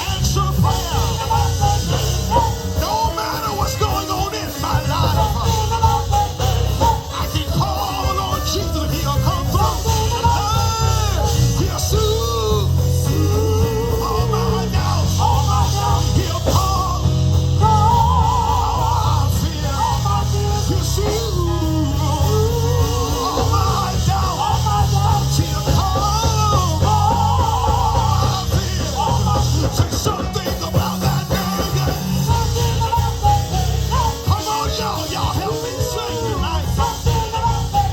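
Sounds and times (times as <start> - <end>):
bass guitar: 0.0 - 37.9
drums: 0.0 - 37.9
organ playing melodic runs: 0.0 - 37.9.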